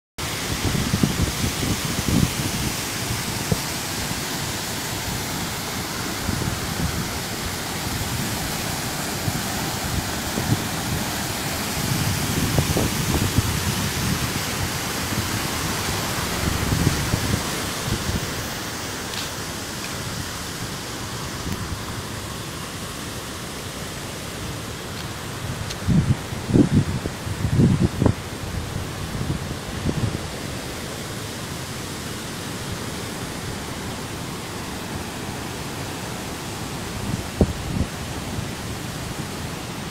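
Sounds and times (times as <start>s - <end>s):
water rushing through dam gates: 0.2s - 39.9s
wind gusting on microphone: 0.3s - 22.4s, 24.3s - 32.0s, 35.6s - 39.7s.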